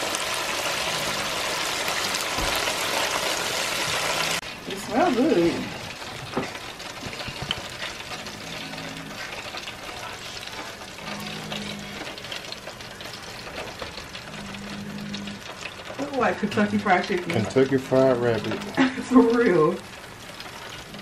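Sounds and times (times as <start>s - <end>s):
fried food crackling and sizzling: 0.0s - 21.0s.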